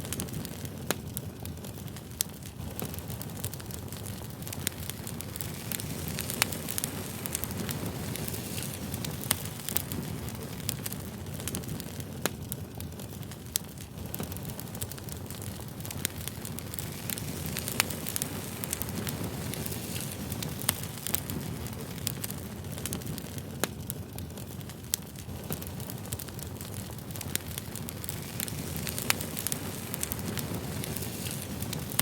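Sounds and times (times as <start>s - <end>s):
campfire pops and snaps: 0.0s - 32.0s
low rumble of burning wood: 0.0s - 32.0s.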